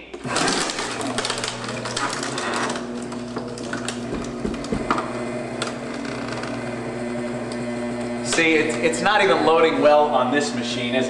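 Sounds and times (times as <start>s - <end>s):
electric appliance motor humming: 0.0s - 11.0s.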